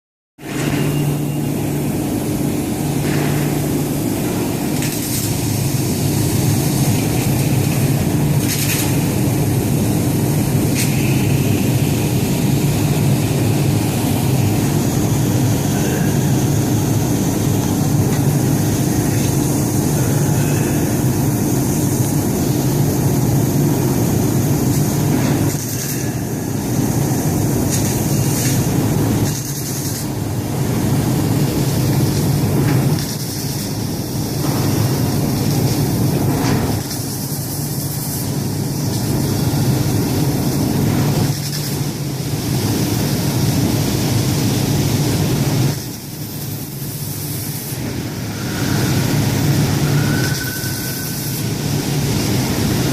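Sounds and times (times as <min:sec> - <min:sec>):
laser cutting machine humming: 0:00.4 - 0:52.9.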